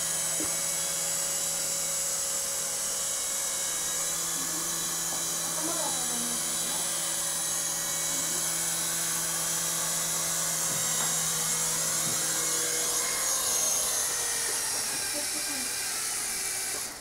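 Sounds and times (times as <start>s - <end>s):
toy helicopter rotor whine: 0.0s - 17.0s.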